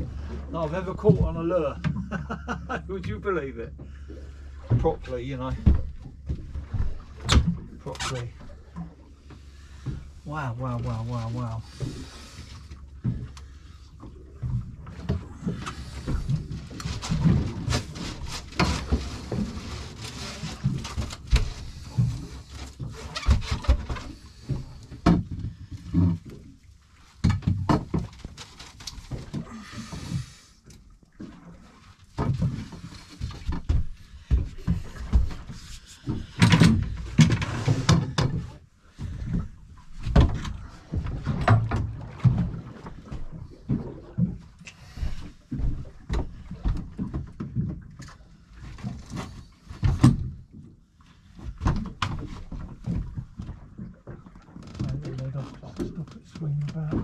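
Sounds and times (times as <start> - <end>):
knocks and bumps on boat: 0.0 - 4.0, 4.6 - 30.5, 31.2 - 57.0.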